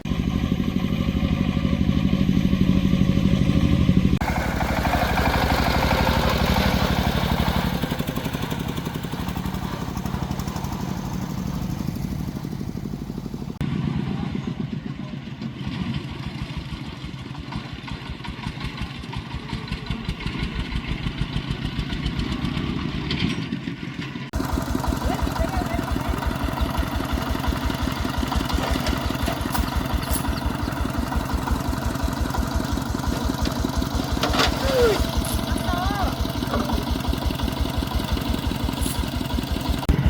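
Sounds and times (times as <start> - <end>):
single-cylinder diesel engine running: 0.0 - 40.0.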